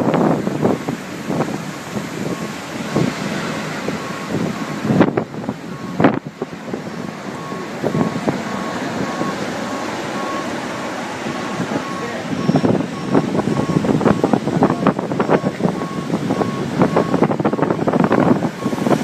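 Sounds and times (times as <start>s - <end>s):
wind buffeting microphone: 0.0s - 19.0s
vehicle reversing beeper: 2.2s - 19.0s.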